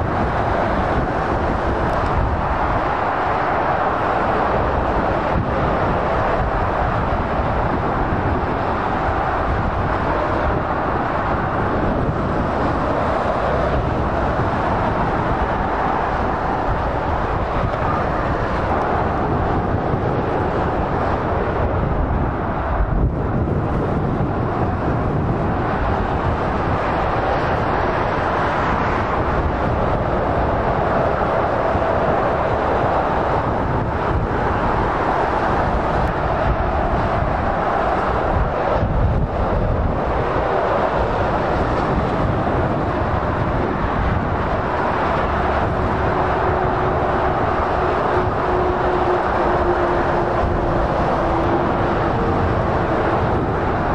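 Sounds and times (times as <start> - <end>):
motorway traffic rumble: 0.0 - 53.9.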